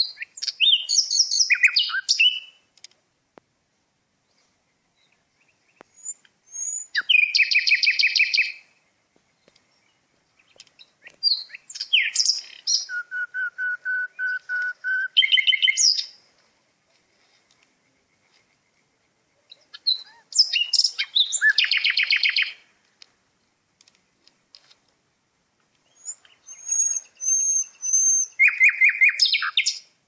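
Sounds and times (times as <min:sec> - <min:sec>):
repeated low whistled bird notes: 0:00.0 - 0:02.7, 0:04.2 - 0:22.7, 0:25.8 - 0:30.0
songbirds chirping: 0:00.0 - 0:30.0.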